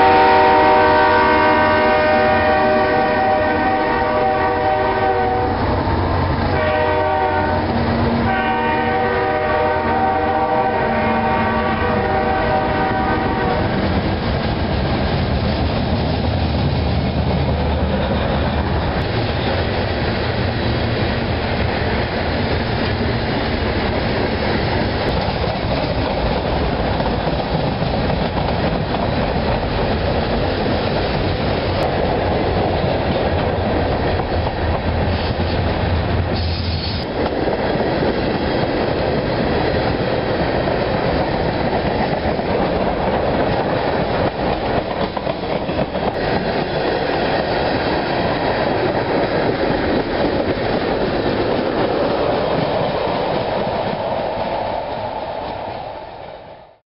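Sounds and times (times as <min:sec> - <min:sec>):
train wheels rumbling on rails: 0:00.0 - 0:56.8.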